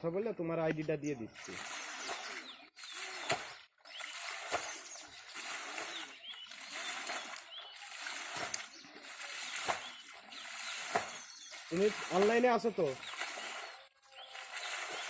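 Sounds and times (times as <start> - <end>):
water splashing and sloshing: 1.3 - 15.0.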